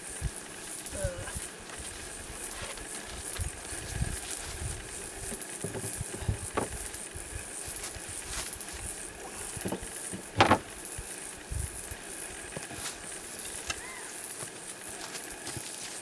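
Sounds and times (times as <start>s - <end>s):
steady high hiss: 0.0s - 16.0s
gear knocking and rustling: 0.2s - 16.0s.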